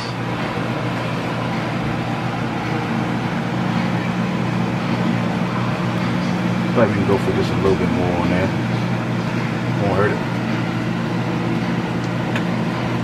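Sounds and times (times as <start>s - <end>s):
fan running: 0.0s - 13.0s.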